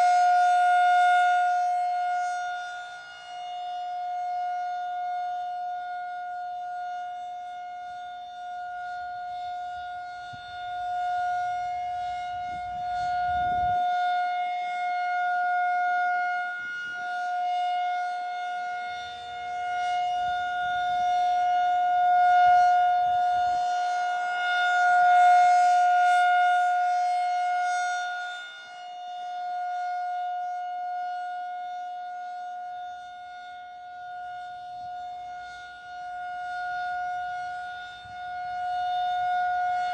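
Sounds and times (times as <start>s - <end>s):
rotating tornado siren tone: 0.0s - 39.9s.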